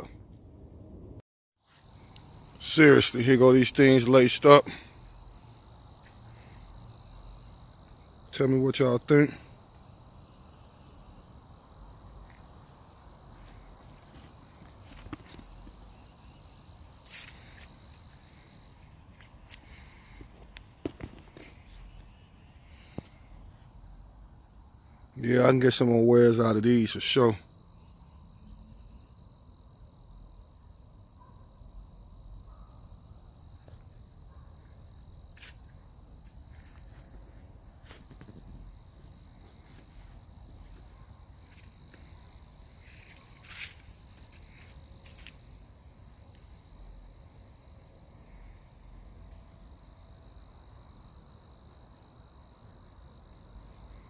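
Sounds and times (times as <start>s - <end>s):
high-pitched insect trill: 1.6s - 54.0s.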